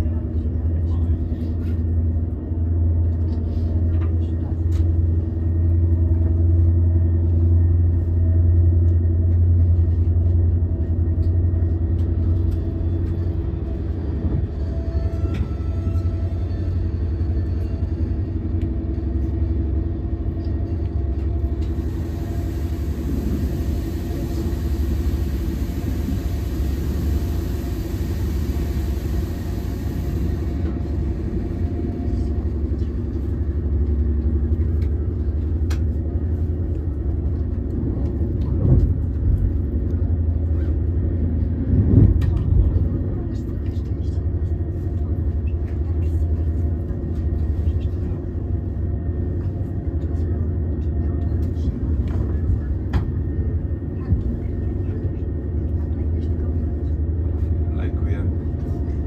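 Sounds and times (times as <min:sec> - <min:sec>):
train carriage rumbling on rails: 0:00.0 - 0:59.0.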